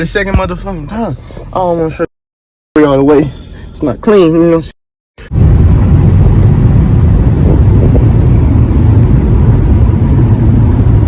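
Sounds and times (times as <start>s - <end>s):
car road and engine rumble: 0.0s - 2.1s, 2.8s - 11.0s.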